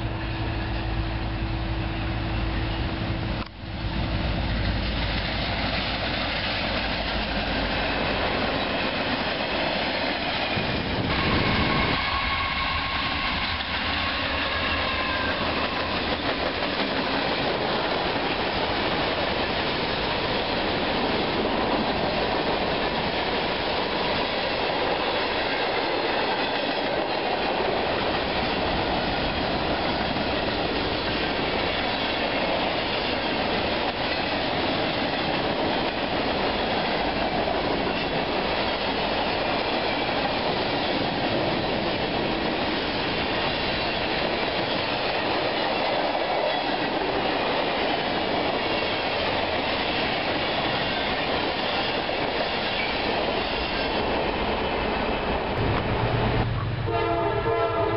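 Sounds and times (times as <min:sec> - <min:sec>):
freight train passing: 0:00.0 - 0:57.9.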